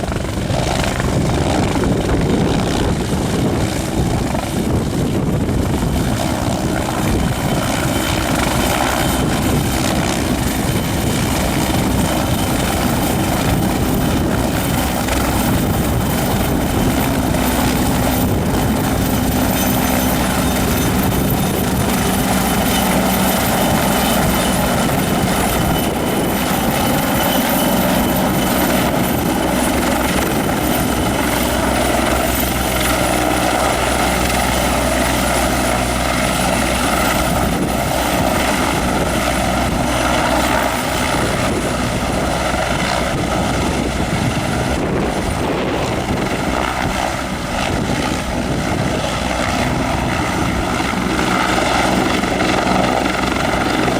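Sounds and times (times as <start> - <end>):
helicopter rotor and turbine: 0.0 - 53.9
high turbine whine: 0.0 - 53.9.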